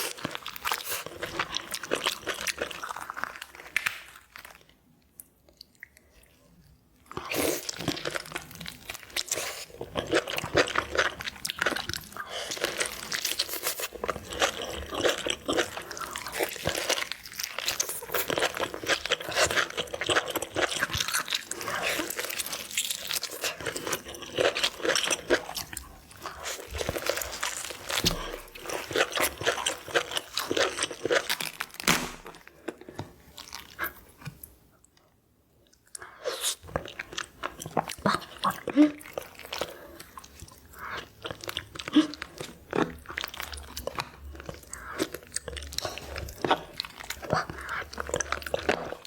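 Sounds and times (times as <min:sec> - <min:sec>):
crunching and chewing lobster: 0:00.0 - 0:49.0.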